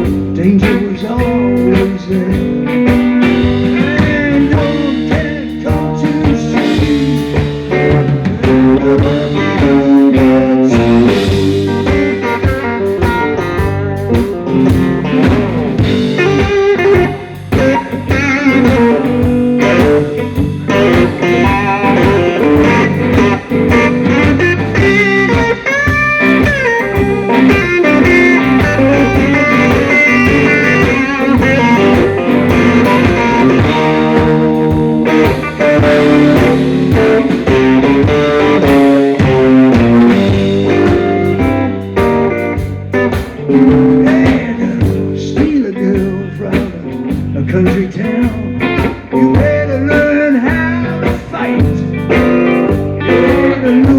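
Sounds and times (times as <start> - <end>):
blues-rock band playing: 0.0 - 53.9
electric guitar bent notes: 0.0 - 53.9.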